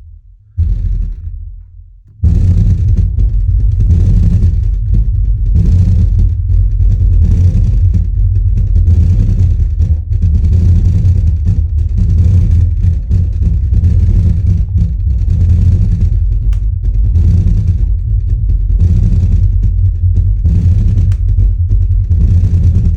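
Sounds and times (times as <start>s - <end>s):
subwoofer playing deep bass: 0.0s - 22.9s.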